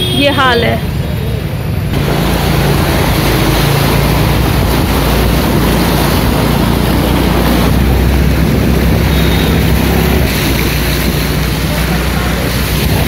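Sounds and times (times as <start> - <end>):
floodwater rushing: 0.0 - 13.0
wind buffeting microphone: 1.9 - 13.0.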